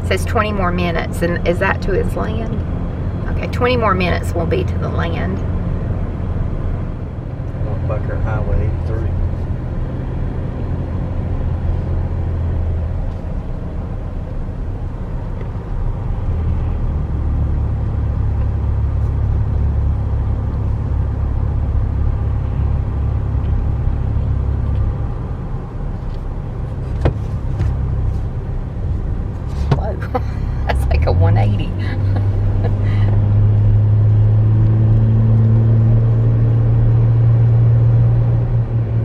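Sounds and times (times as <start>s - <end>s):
car road and engine rumble: 0.0s - 39.0s.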